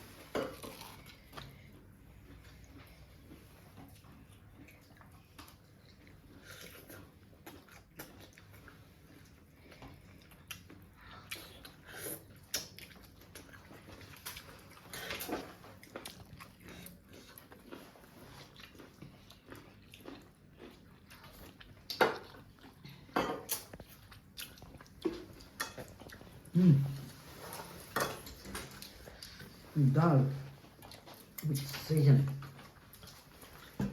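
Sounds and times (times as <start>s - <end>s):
person chewing food: 0.0s - 29.8s, 30.4s - 33.9s.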